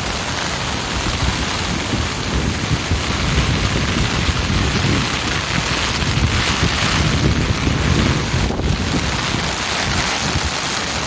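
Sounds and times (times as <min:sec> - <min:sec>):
river rushing in flood: 0:00.0 - 0:11.0
wind buffeting microphone: 0:00.0 - 0:11.0.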